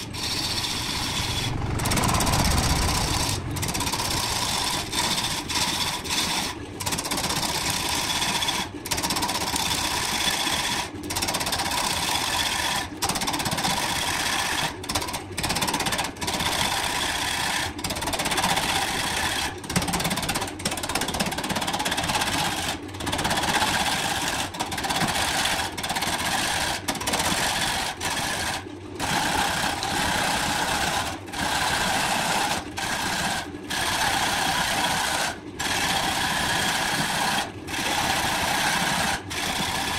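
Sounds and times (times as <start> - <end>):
wood lathe running: 0.0 - 19.5, 22.0 - 39.9.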